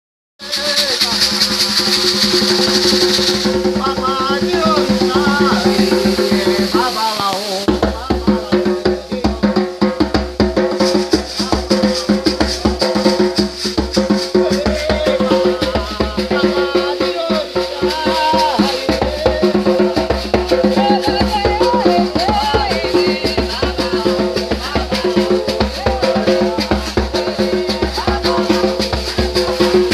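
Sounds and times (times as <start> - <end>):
drums and shaker beat: 0.4 - 29.9.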